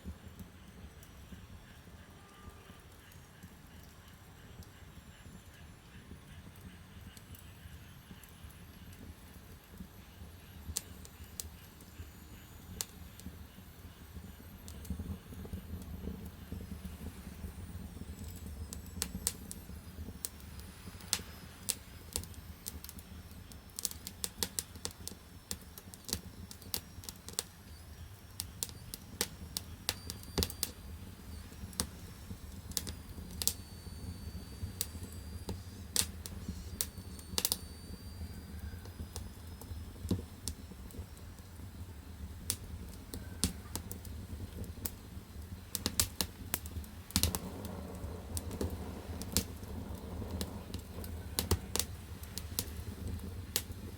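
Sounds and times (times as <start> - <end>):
firewood crackling and popping: 0.0 - 53.9
low rumble of fire: 0.0 - 53.9.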